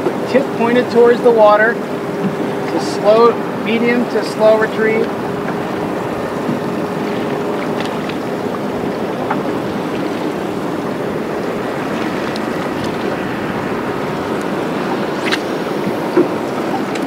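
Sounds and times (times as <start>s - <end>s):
choppy sea water: 0.0s - 17.0s
steady wind: 0.0s - 17.0s.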